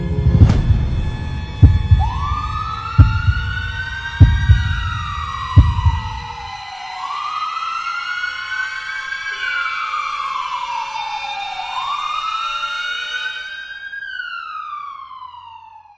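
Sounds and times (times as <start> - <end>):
emergency siren wailing: 0.0 - 15.9.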